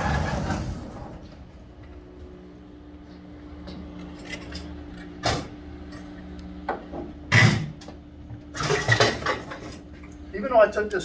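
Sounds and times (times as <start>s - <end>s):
refrigerator hum: 0.0s - 11.0s.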